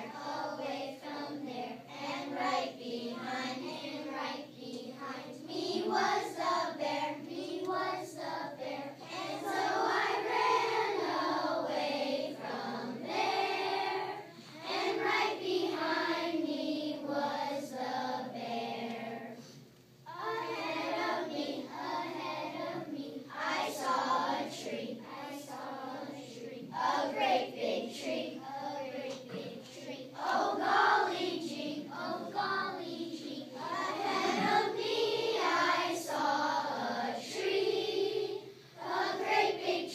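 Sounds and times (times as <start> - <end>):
children's choir singing: 0.0 - 19.5, 20.1 - 39.9.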